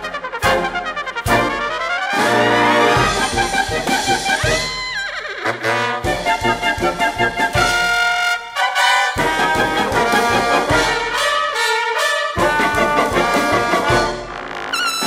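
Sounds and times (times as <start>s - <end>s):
solo trumpets: 0.0s - 15.0s
wind band playing: 0.0s - 15.0s.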